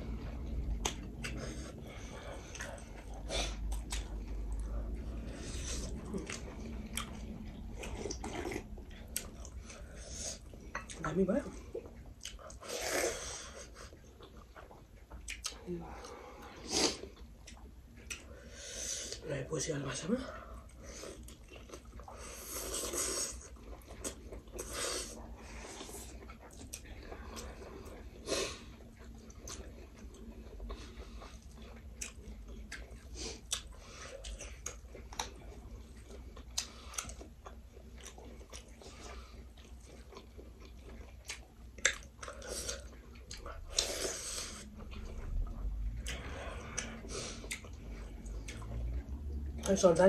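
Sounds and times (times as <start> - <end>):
people chewing: 0.0 - 50.0.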